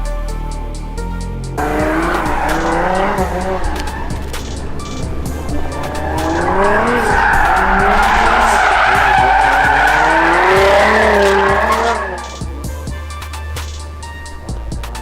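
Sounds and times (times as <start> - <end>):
car engine revving: 0.3 - 15.0
tyres screeching: 0.6 - 15.0.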